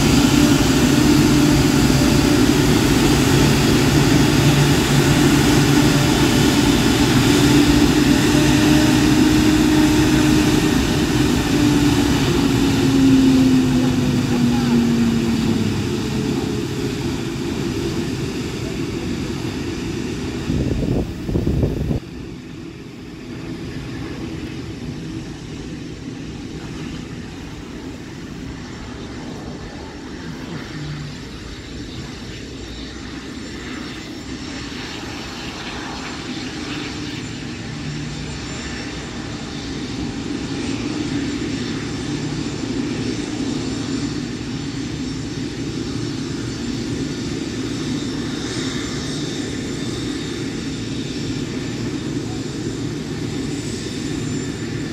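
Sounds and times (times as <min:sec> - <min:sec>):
distant jet engines rumbling: 0:00.0 - 0:54.9.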